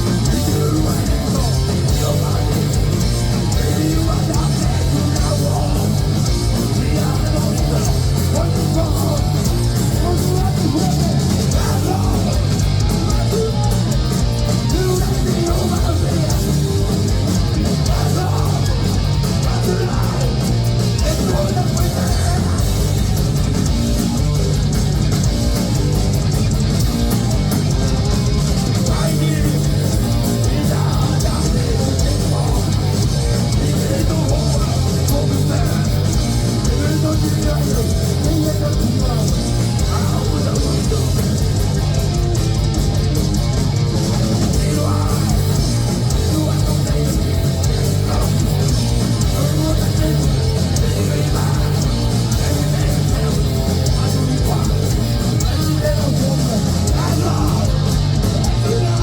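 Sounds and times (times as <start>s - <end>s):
electric guitars: 0.0s - 59.0s
heavy metal band playing live: 0.0s - 59.0s.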